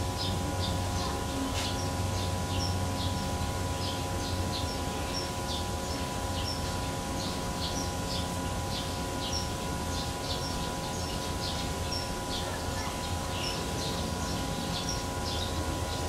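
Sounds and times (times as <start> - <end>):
mechanical hum: 0.0 - 16.0
small birds chirping: 0.2 - 16.0.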